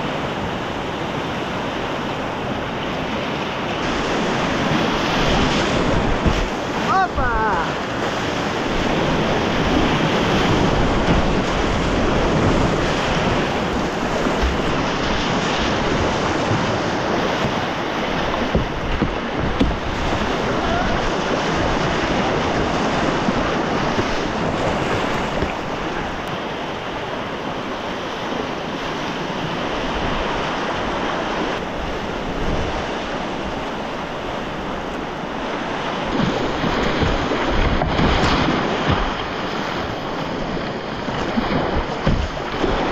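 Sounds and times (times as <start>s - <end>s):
paddle splashing: 0.0s - 42.9s
whitewater rapids rushing: 0.0s - 42.9s.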